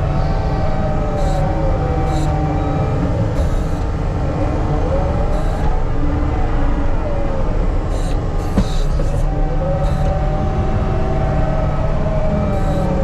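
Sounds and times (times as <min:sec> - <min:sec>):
diesel machine engine whining: 0:00.0 - 0:13.0.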